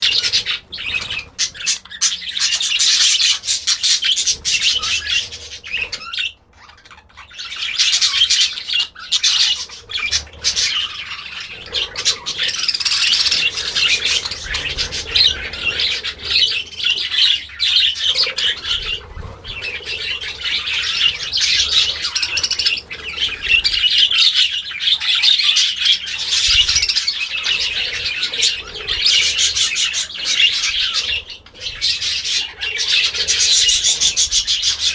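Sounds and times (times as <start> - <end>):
parrots chattering: 0.0 - 34.9.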